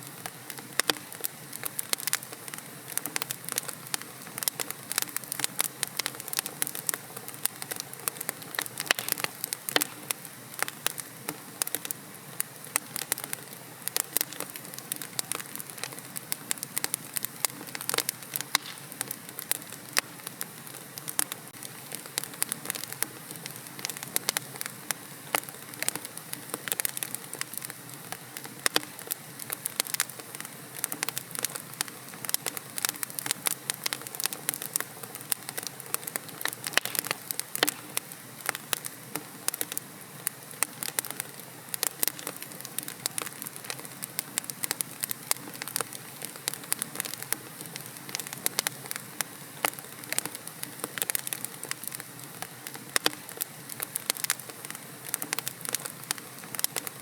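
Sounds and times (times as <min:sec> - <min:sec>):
logs crackling in fireplace: 0:00.0 - 0:57.0.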